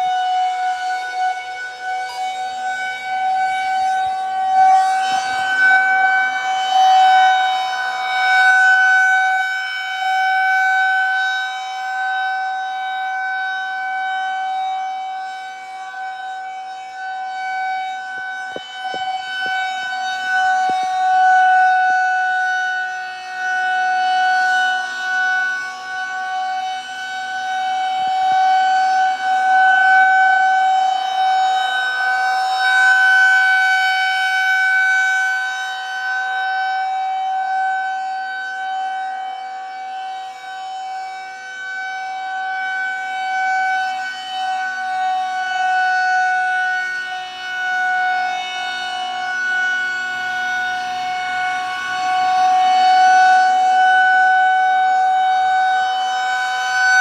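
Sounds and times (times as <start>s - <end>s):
rotating tornado siren: 0.0s - 57.0s.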